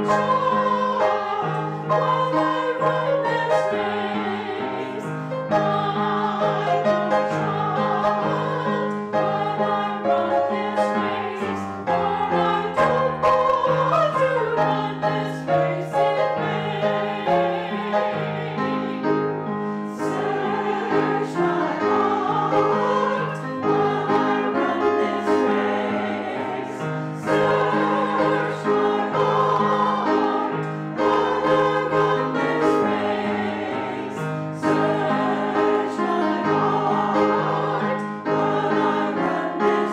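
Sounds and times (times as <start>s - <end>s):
choir singing a hymn: 0.0s - 39.9s
piano accompaniment: 0.0s - 39.9s.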